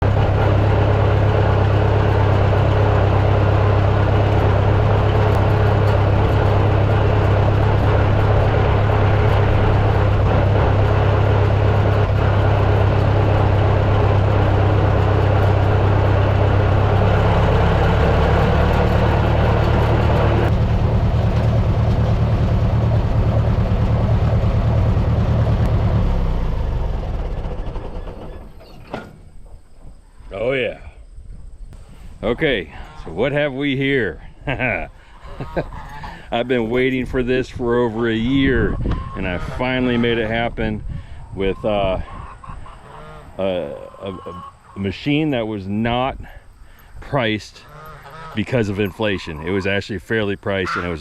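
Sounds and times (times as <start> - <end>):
vehicle engine running: 0.0 - 29.8, 31.8 - 42.3, 43.0 - 51.0.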